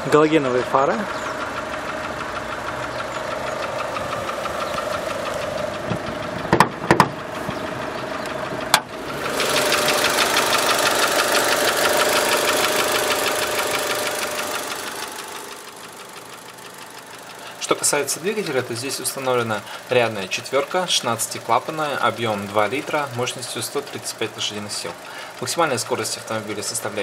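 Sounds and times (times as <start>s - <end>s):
car engine idling with ticking: 0.0s - 27.0s.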